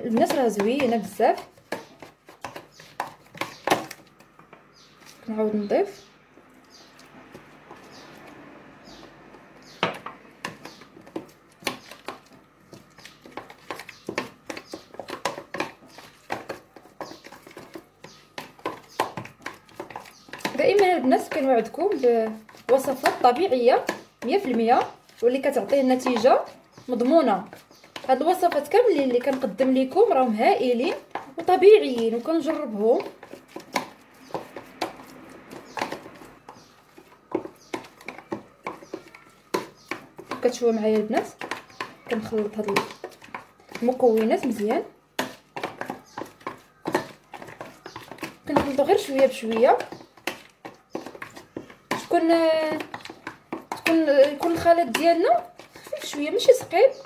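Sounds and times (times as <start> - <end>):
spoon stirring paste in plastic tub: 0.0 - 57.0.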